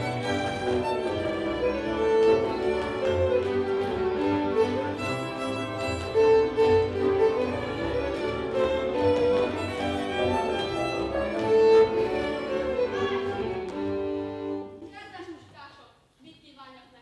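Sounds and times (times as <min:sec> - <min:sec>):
fiddle: 0:00.0 - 0:14.8
folk dance music: 0:00.0 - 0:15.2.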